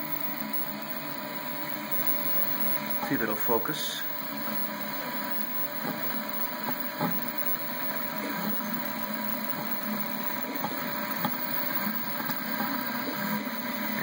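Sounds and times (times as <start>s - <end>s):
printer motors whirring: 0.0s - 14.0s.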